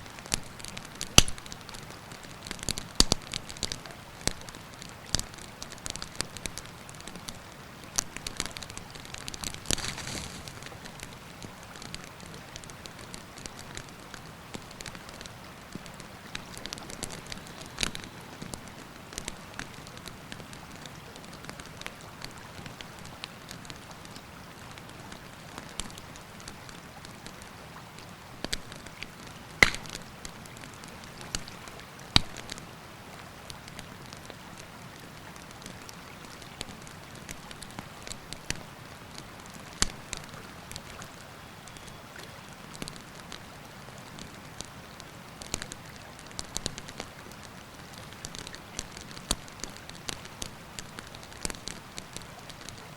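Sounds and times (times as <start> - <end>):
campfire crackling and popping: 0.0 - 32.7, 33.4 - 52.9.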